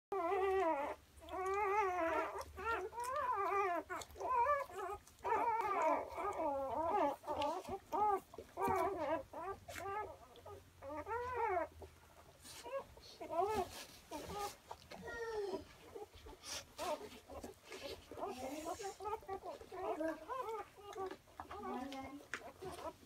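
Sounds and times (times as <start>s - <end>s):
puppies squealing: 0.1s - 23.0s.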